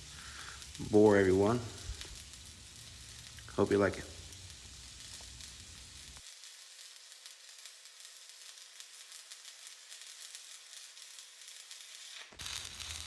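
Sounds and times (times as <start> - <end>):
welding arc crackling sizzle: 0.0 - 13.0.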